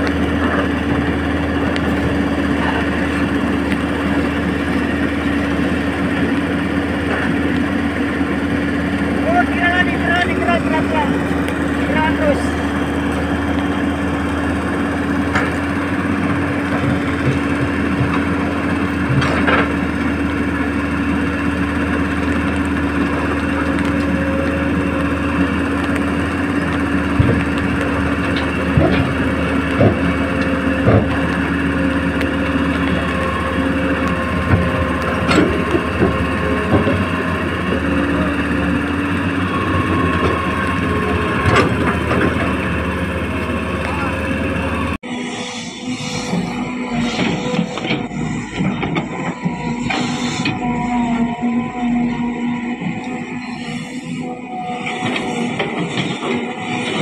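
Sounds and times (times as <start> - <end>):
small electric motors whining: 0.0 - 57.0.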